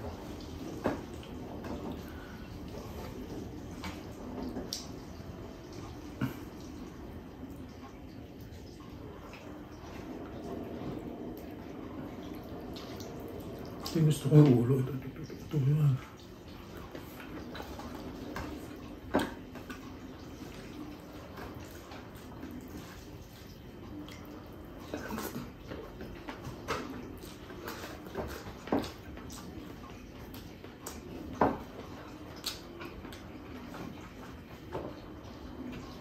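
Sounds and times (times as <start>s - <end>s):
low steady background noise: 0.0s - 36.0s.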